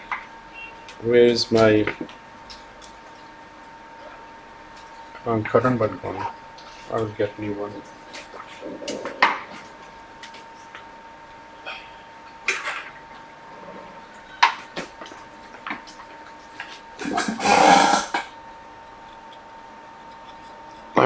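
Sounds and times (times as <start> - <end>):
faint steady whine: 0.0 - 21.0.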